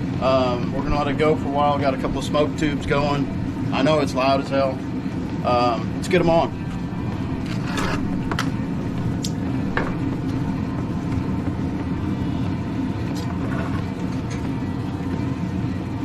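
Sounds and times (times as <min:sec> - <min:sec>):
loud mechanical rumble: 0:00.0 - 0:16.0.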